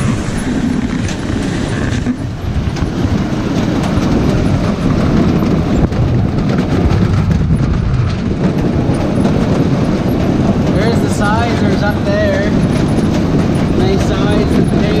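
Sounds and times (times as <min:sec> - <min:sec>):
machine rumbling and rattling: 0:00.0 - 0:15.0.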